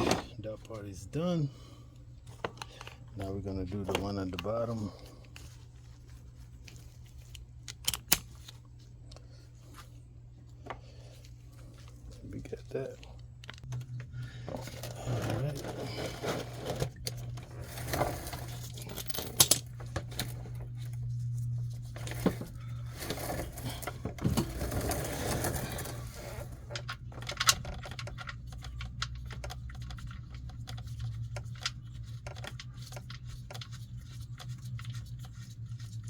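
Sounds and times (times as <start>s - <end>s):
steady low hum: 0.0s - 36.0s
rustling handling noise: 1.9s - 36.0s.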